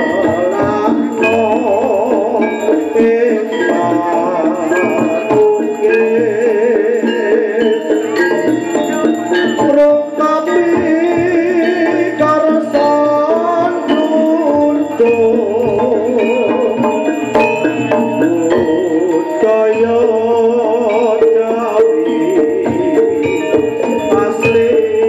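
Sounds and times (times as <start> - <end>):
wavering ornamented melody: 0.0 - 25.0.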